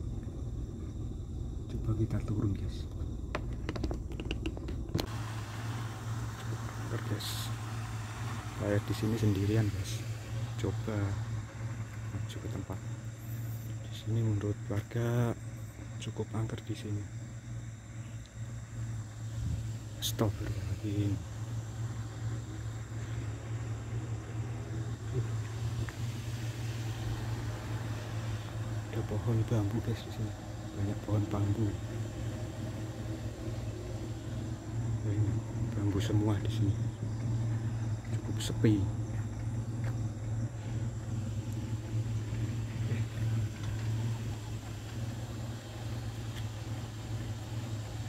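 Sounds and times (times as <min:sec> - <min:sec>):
car engine running: 0:00.0 - 0:48.0
constant hiss: 0:00.0 - 0:48.0
faint road noise: 0:00.0 - 0:48.0
low mechanical hum: 0:00.0 - 0:48.0.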